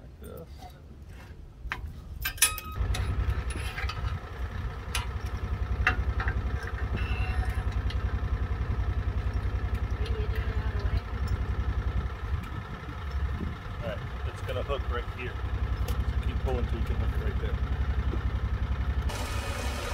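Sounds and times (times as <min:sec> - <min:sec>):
vehicle engine idling: 0:02.8 - 0:19.9.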